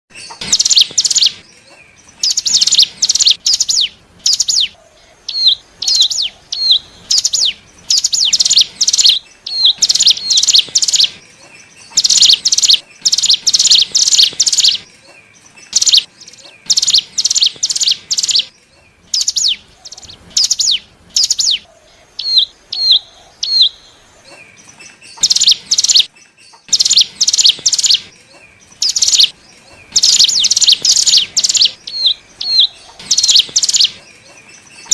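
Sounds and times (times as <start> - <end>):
bird singing rapid high notes: 0.2 - 4.7, 5.3 - 18.5, 24.6 - 34.9
bird hooked calls: 0.2 - 34.9.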